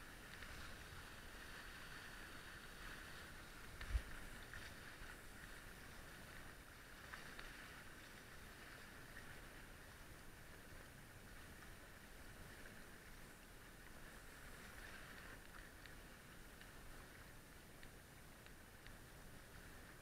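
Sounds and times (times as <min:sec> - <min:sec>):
rush of water: 0:00.0 - 0:20.0
wind: 0:00.0 - 0:20.0.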